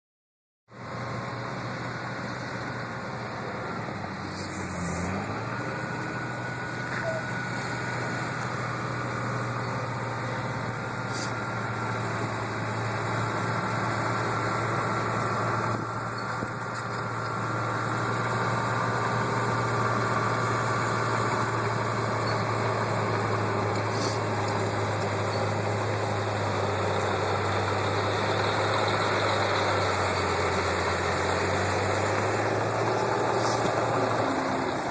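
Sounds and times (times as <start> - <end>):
heavy diesel engine droning: 0.7 - 34.9.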